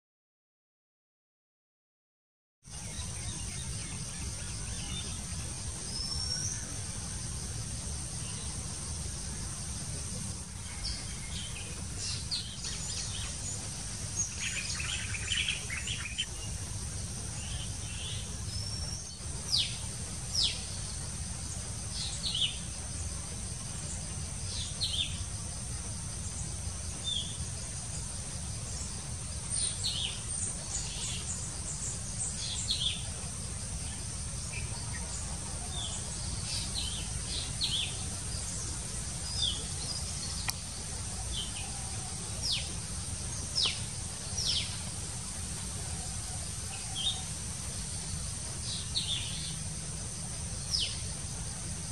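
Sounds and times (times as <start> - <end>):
small birds chirping: 2.7 - 51.9.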